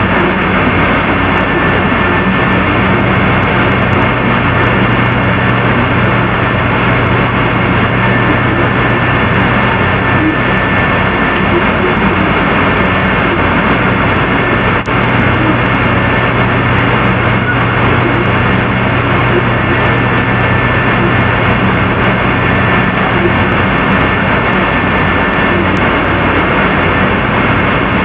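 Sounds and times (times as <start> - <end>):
high steady tone: 0.0 - 28.0
loud droning noise: 0.0 - 28.0.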